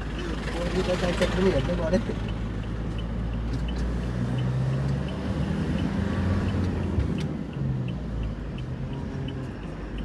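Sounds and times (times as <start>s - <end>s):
car engine running: 0.0s - 10.0s
road noise inside car: 0.0s - 10.0s.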